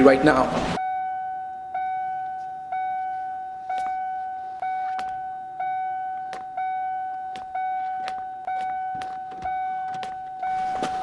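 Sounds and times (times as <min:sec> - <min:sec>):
repeating electronic beep: 0:00.8 - 0:11.0.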